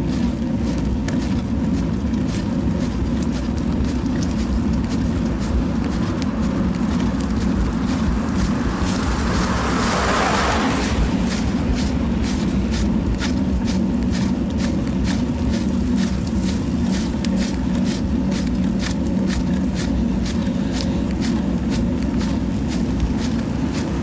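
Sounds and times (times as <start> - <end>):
wind rumble: 0.0 - 24.0.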